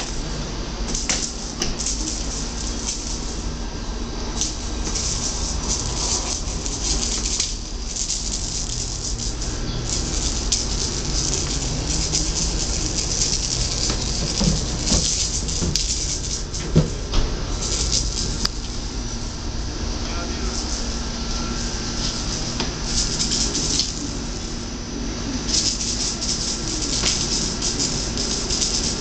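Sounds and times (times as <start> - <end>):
low hum: 0.0 - 29.0
steady hiss: 0.0 - 29.0.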